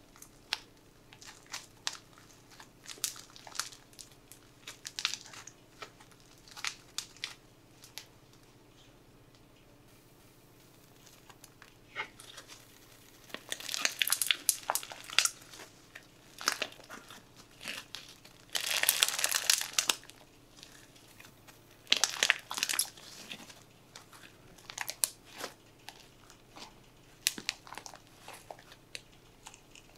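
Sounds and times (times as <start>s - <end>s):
slime crackling and popping: 0.1s - 8.1s, 10.8s - 29.9s.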